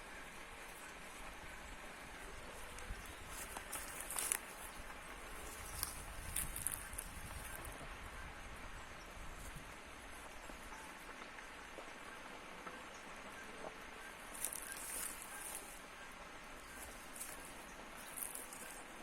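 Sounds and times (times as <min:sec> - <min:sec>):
insects chirping: 0:00.0 - 0:08.2, 0:09.0 - 0:19.0.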